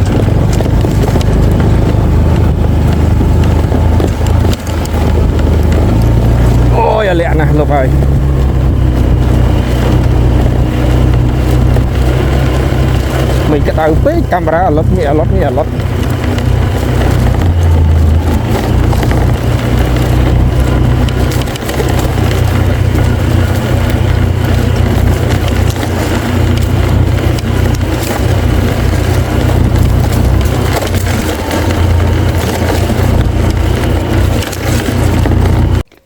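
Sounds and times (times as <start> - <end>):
heavy low rumble: 0.0 - 36.0.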